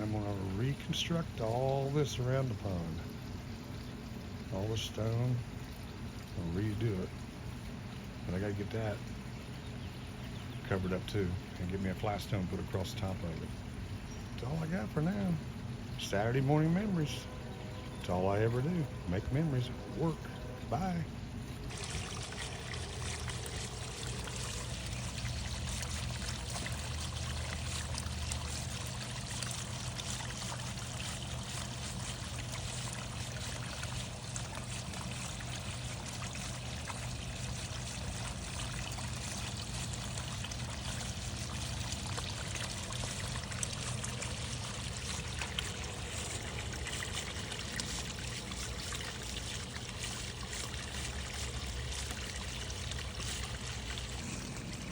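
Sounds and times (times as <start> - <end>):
steady low hum: 0.0 - 54.9
water trickling and splashing: 0.0 - 54.9.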